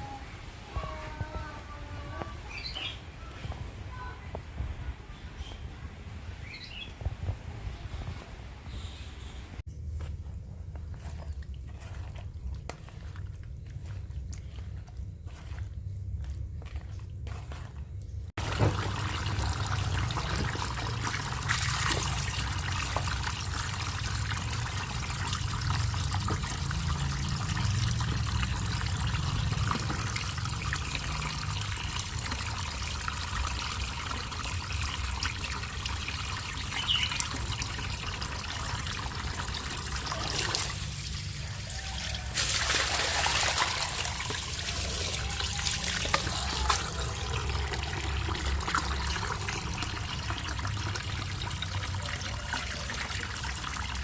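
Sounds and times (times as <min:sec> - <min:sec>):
water trickling and splashing: 0:10.7 - 0:54.0.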